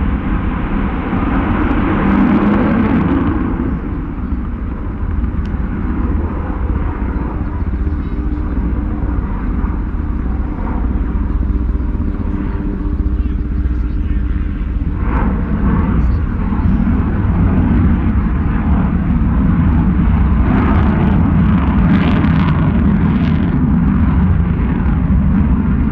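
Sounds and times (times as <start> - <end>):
jet engines rumbling: 0.0 - 25.9.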